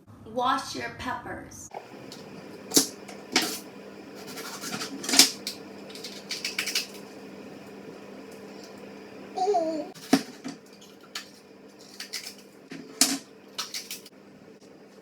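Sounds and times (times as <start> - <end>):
faint steady hum: 1.7 - 15.0.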